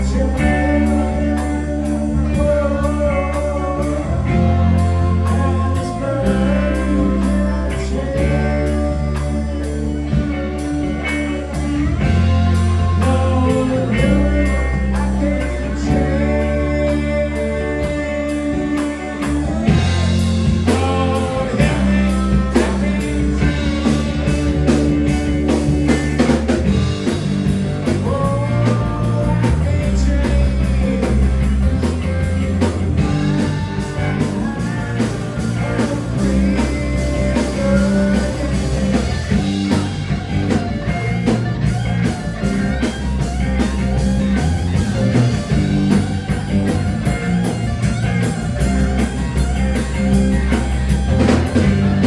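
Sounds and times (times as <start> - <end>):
rock music with electric guitar: 0.0 - 52.0.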